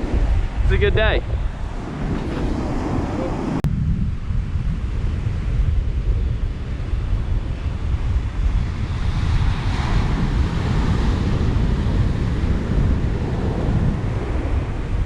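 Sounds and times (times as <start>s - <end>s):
surf breaking on beach: 0.0s - 3.6s, 4.2s - 15.0s
wind buffeting microphone: 0.0s - 15.0s.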